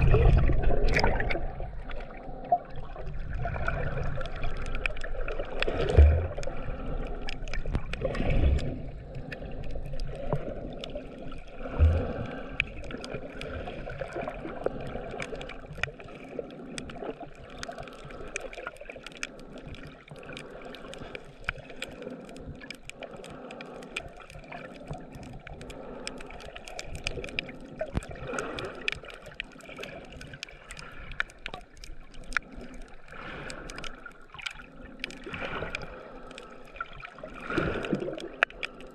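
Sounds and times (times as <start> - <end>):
muffled underwater water movement: 0.0 - 38.9
faint sharp underwater clicks: 3.6 - 38.9.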